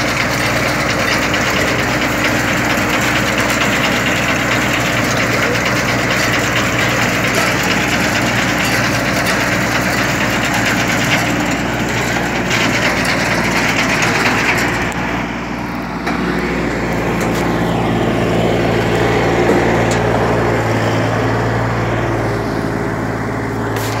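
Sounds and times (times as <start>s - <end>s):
harvester cutting grass: 0.0s - 24.0s
tractor engine running: 0.0s - 24.0s.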